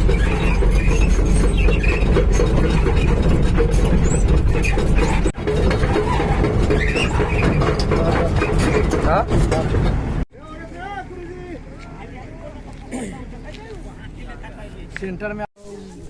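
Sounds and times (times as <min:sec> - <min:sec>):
heavy vehicle engine rumble: 0:00.0 - 0:15.2.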